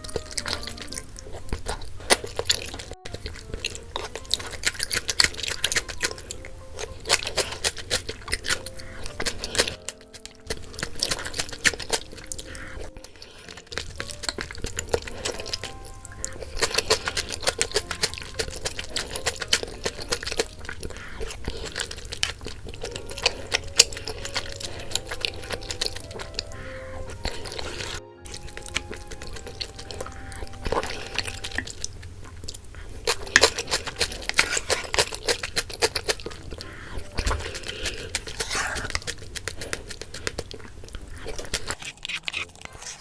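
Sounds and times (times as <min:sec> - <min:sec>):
chewing with crisp clicks: 0:00.0 - 0:43.0
light cute background music: 0:00.0 - 0:43.0.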